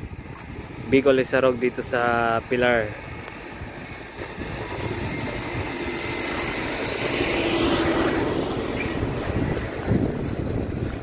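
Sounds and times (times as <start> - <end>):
motor vehicle humming: 0.0 - 11.0.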